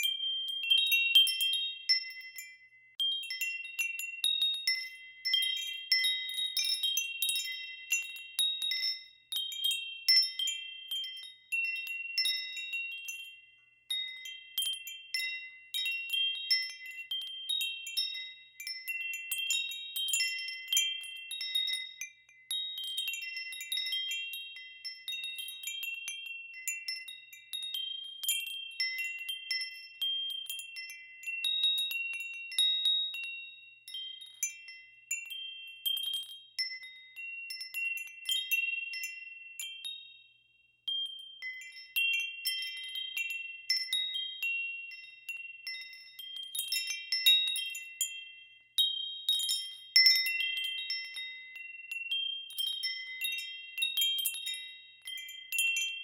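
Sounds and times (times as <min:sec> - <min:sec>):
wind chimes ringing: 0:00.0 - 0:56.0.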